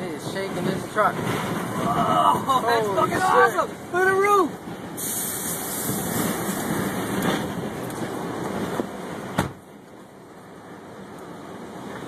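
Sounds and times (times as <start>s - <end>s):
wind rushing and gusting: 0.0s - 12.0s.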